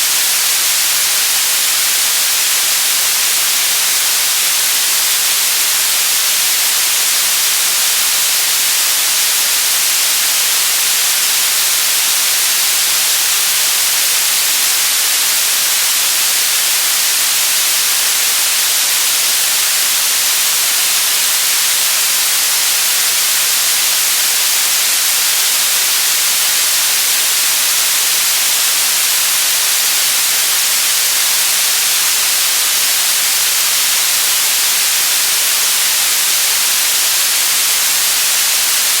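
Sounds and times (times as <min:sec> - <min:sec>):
loud static hiss: 0:00.0 - 0:39.0.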